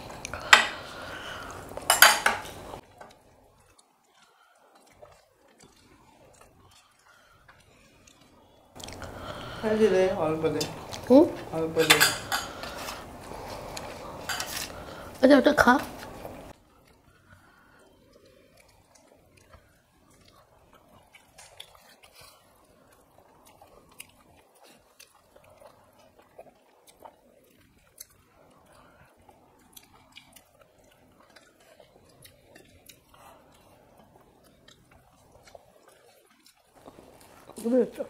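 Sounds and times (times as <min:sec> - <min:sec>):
faint chewing: 0:00.0 - 0:38.0.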